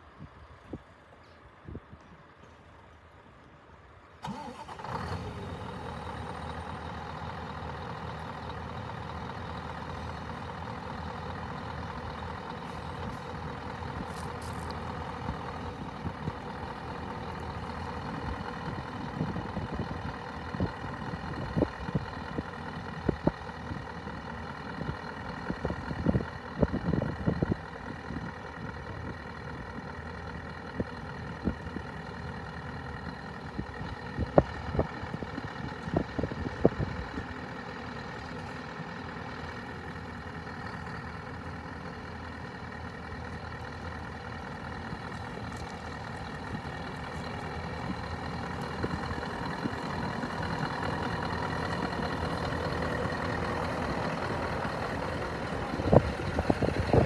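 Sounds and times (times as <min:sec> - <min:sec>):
diesel engine starting and idling: 0:04.0 - 0:57.0.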